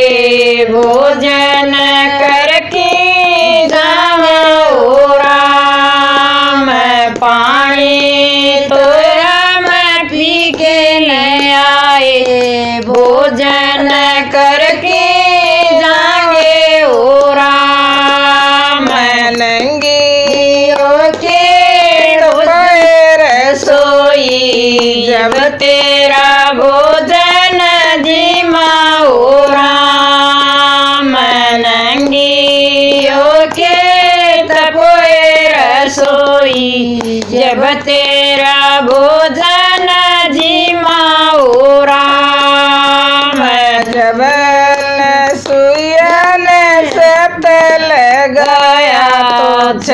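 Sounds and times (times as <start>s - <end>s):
women singing devotional song: 0.0s - 49.9s.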